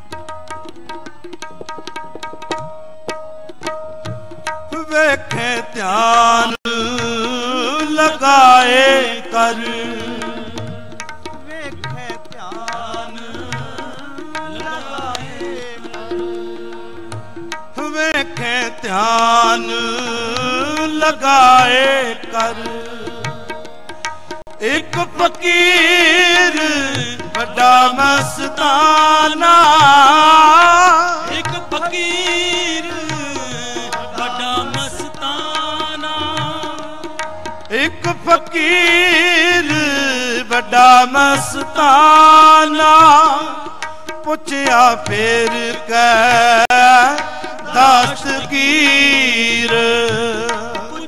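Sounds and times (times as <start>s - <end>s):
harmonium notes: 0.0s - 51.0s
tabla playing: 0.0s - 51.0s
person singing wordless phrases: 4.7s - 10.8s, 11.4s - 17.1s, 17.8s - 23.7s, 24.6s - 51.0s.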